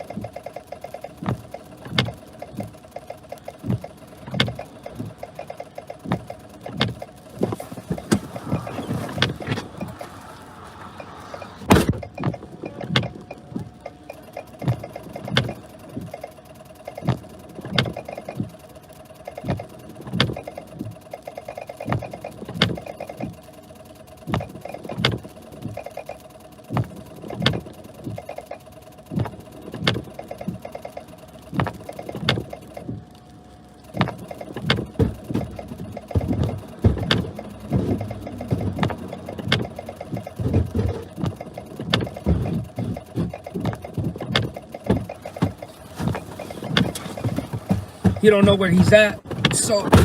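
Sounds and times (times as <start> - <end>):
sharp knocks and clicks: 0.0 - 18.6, 19.2 - 23.5, 24.2 - 33.2, 33.8 - 50.0
vehicle cabin hum: 0.0 - 50.0.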